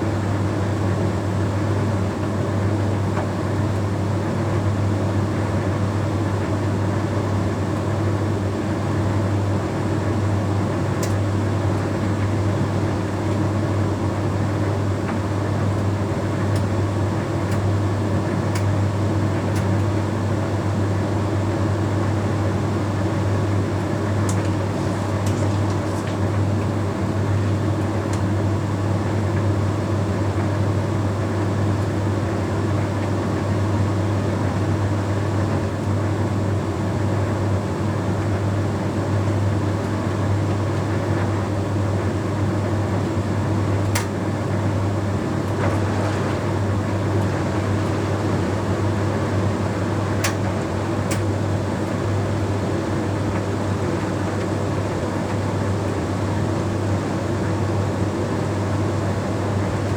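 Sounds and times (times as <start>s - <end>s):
tumble dryer running: 6.3s - 59.9s.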